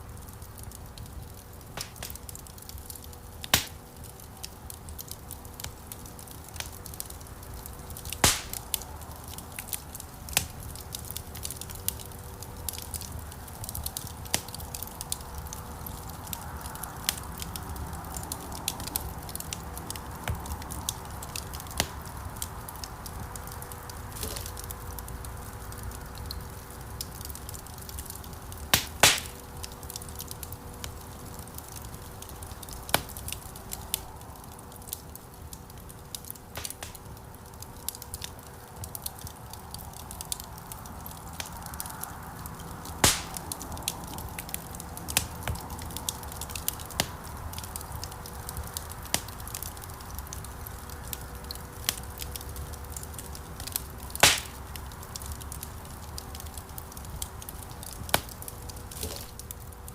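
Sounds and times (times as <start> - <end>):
faint steady hum: 0.0 - 59.9
fire crackling in a fireplace: 0.0 - 59.9.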